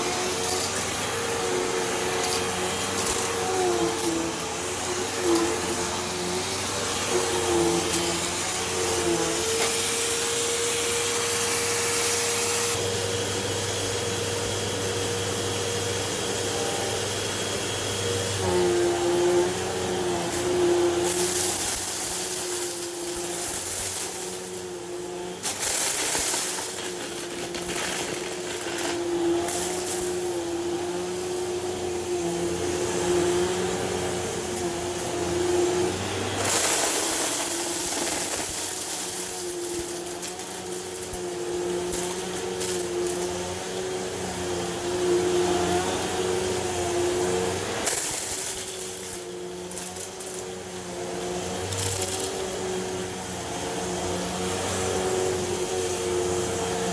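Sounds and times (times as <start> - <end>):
rushes of hissing air: 0.0 - 56.9
upright vacuum cleaner running: 0.0 - 56.9.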